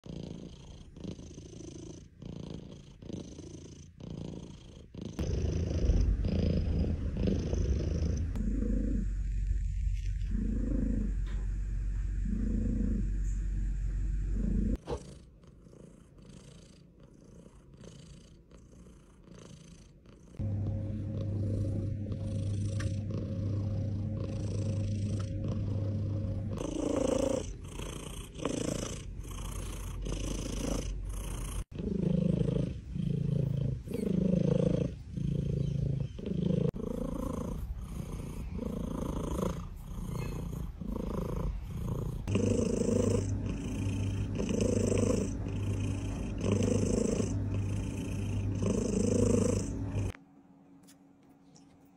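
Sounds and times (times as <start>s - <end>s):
cat purring: 0.0s - 50.2s.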